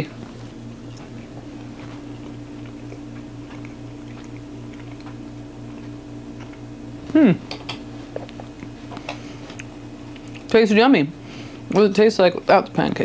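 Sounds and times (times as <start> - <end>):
person chewing: 0.0 - 10.6
low room hum: 0.0 - 13.0.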